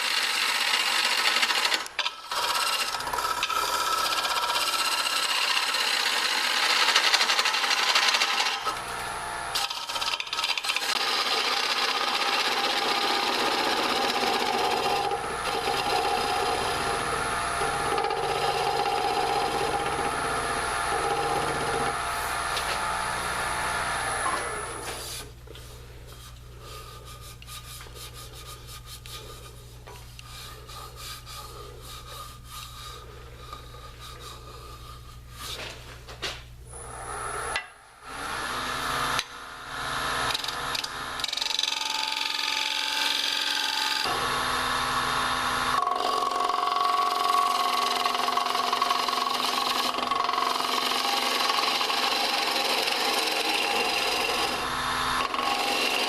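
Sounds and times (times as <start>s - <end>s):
lathe tool scraping spinning wood: 0.0s - 35.8s, 36.7s - 56.0s.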